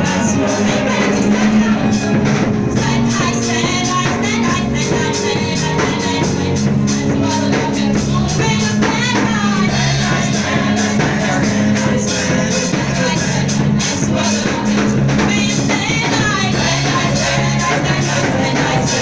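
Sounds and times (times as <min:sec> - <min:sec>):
singing over a percussive beat: 0:00.0 - 0:19.0.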